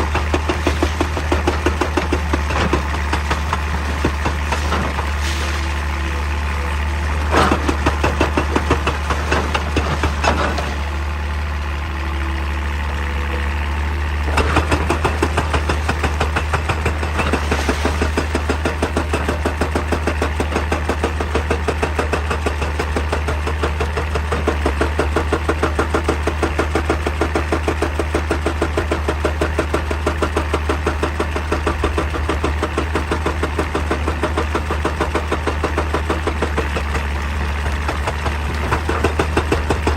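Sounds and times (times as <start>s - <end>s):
hydraulic hammer pounding rock: 0.0s - 11.2s, 14.2s - 39.9s
diesel engine running: 0.0s - 39.9s.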